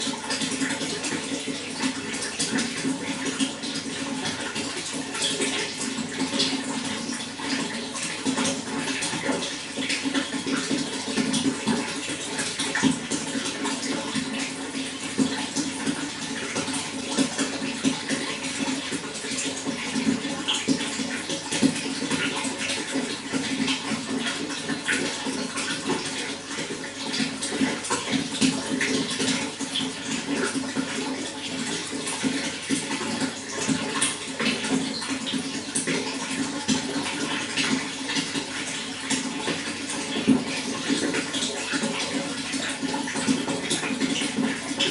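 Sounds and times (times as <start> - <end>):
running water splashing: 0.0 - 44.9.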